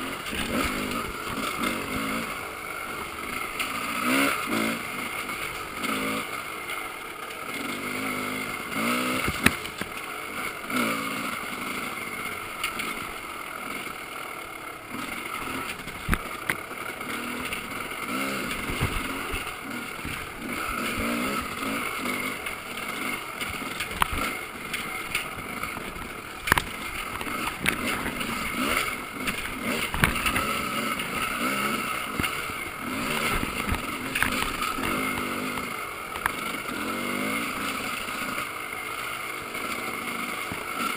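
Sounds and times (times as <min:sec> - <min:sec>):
dirt bike engine: 0:00.0 - 0:40.9.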